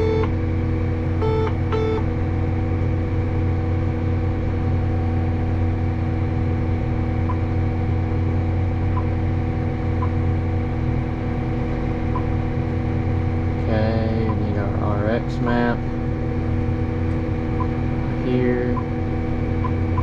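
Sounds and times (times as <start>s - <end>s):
tractor and fans droning: 0.0s - 20.0s.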